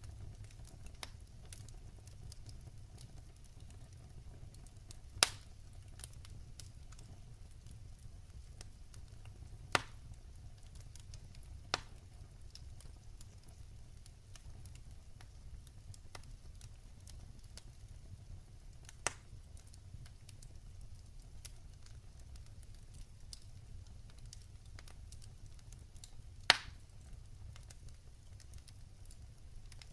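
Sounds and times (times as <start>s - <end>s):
fire crackling: 0.0s - 29.9s
wood fire rumbling: 0.0s - 29.9s.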